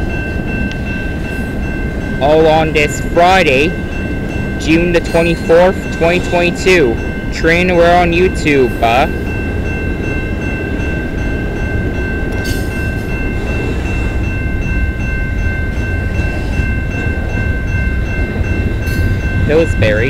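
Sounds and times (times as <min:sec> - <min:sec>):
freight train wheels rumbling: 0:00.0 - 0:20.0
high-pitched tone: 0:00.0 - 0:20.0.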